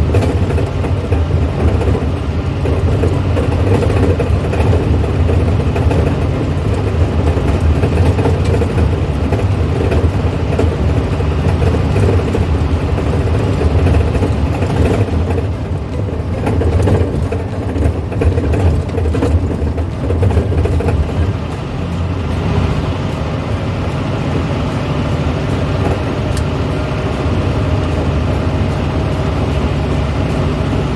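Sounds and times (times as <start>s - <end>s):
car engine running: 0.0s - 30.9s
road noise: 0.0s - 30.9s.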